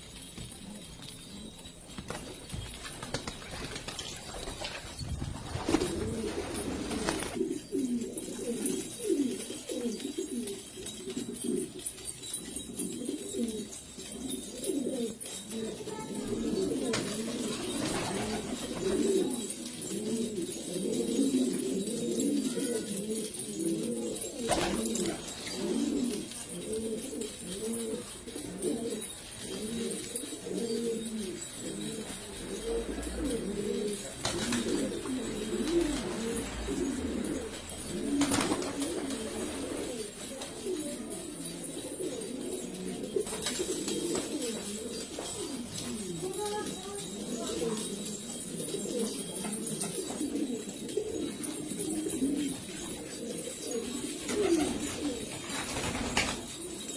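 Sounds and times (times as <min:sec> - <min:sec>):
pigeons cooing: 0:00.0 - 0:56.9.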